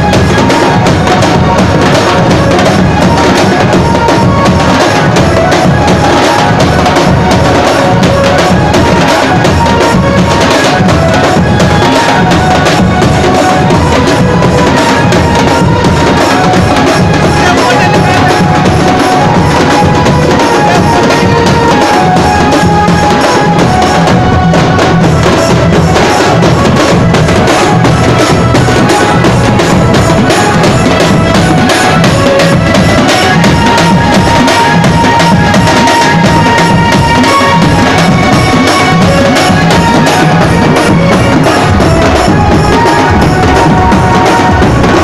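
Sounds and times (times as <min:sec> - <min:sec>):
music with fast drumming: 0:00.0 - 0:45.0.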